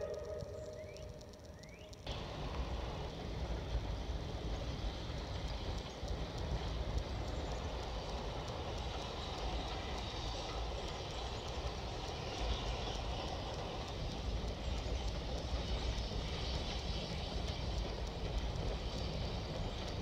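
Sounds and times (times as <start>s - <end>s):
steam train rumbling: 0.0s - 20.0s.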